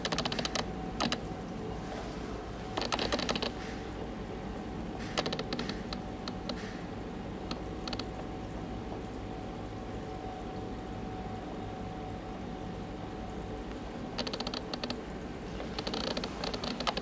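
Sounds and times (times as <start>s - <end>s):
aquarium equipment hum: 0.0s - 17.0s.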